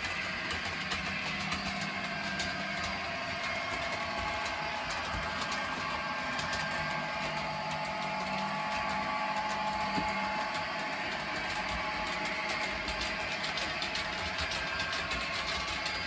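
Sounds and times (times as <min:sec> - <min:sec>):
model locomotive hum: 0:00.0 - 0:16.0
wheels clicking on track: 0:00.0 - 0:16.0.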